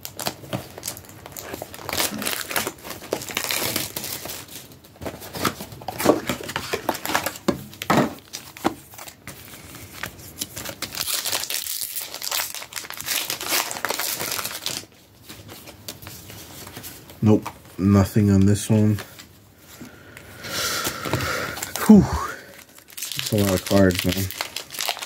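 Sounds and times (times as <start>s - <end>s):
foil wrappers tearing and crinkling: 0.0s - 17.5s, 20.8s - 25.0s.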